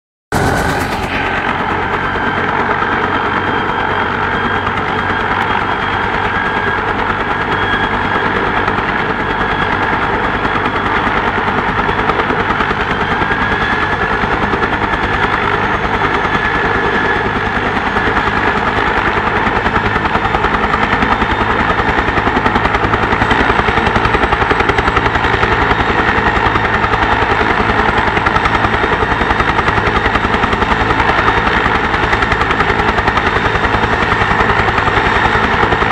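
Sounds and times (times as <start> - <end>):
helicopter rotor blade chop: 0.3 - 35.9
high turbine engine whine: 0.3 - 35.9.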